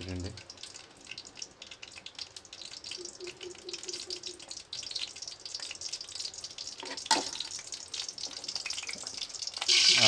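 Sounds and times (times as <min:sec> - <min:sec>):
oil crackling and popping in pan: 0:00.0 - 0:10.0.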